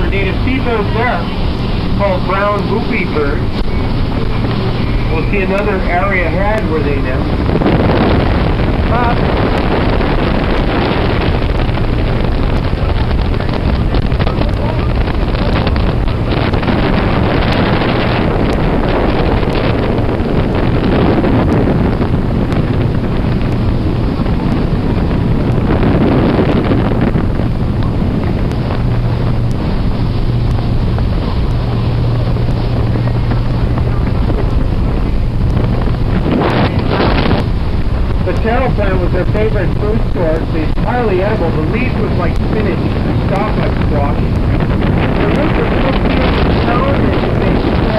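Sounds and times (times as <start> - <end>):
boat engine drone: 0.0 - 47.9
wind buffeting microphone: 0.0 - 47.9.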